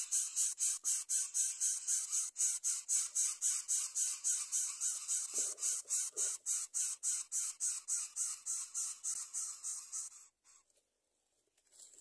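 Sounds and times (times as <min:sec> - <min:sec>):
nestlings begging with raspy calls: 0:00.0 - 0:10.6.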